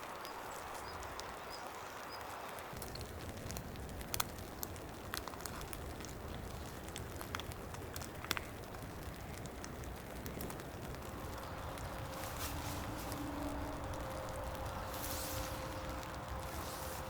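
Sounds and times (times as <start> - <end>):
rain on a tent: 0.0 - 17.0
sharp drips and taps: 0.1 - 17.0.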